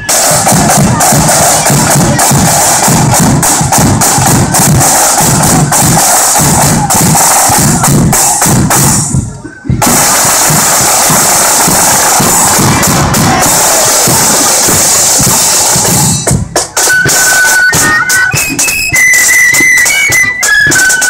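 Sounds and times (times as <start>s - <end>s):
marching band side drums: 0.0s - 21.0s.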